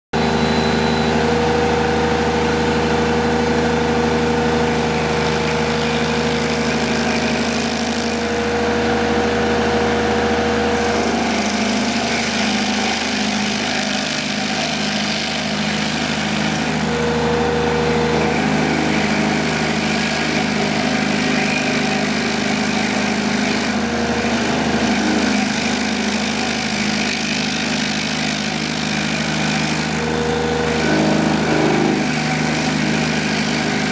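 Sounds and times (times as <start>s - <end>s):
stump grinder diesel engine running: 0.1s - 33.9s.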